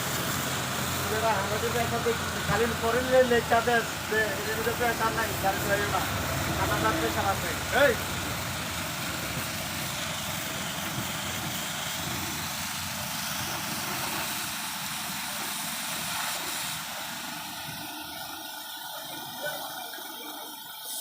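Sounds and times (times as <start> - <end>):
machine running with rumble and hiss: 0.0 - 21.0.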